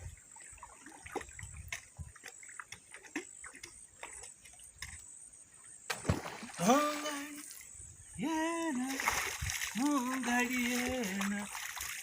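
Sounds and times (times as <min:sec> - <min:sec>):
small splashes and knocks: 0:00.0 - 0:05.1, 0:05.9 - 0:07.7, 0:08.8 - 0:12.0
water trickling: 0:00.0 - 0:05.4, 0:06.0 - 0:12.0.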